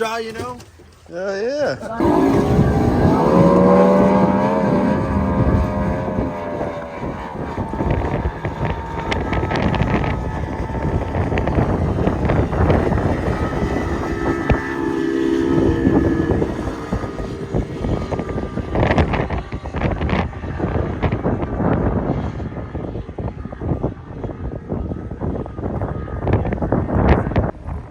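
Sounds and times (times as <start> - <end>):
wind buffeting microphone: 1.6 - 27.9
motorboat engine running: 1.7 - 27.9.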